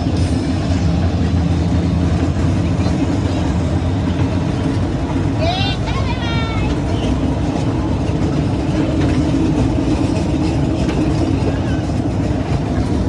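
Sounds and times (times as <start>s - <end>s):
train rumbling and humming: 0.0s - 13.0s.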